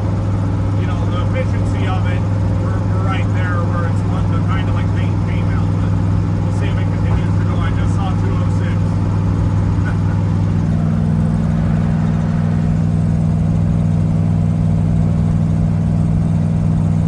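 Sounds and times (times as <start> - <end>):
racecar engine droning: 0.0 - 17.0.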